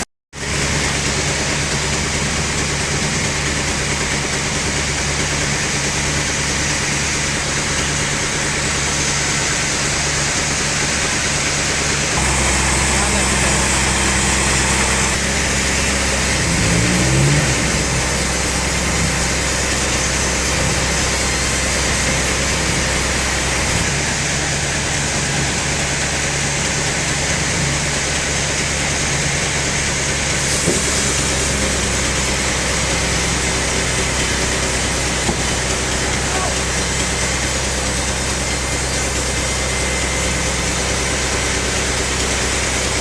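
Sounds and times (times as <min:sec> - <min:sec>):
band sawmill machinery drone: 0:00.0 - 0:43.0.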